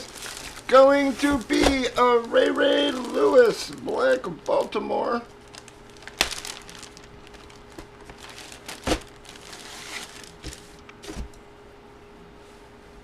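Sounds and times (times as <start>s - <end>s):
cards and packaging crinkling: 0.0s - 11.4s.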